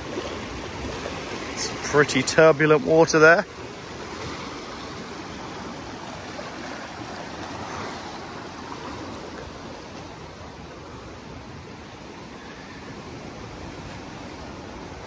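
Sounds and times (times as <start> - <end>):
rushing river water: 0.0 - 15.0.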